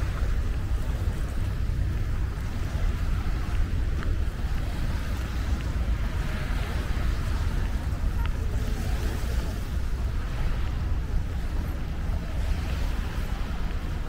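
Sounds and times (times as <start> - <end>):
sea waves at shore: 0.0 - 14.0
wind buffeting microphone: 0.0 - 14.0.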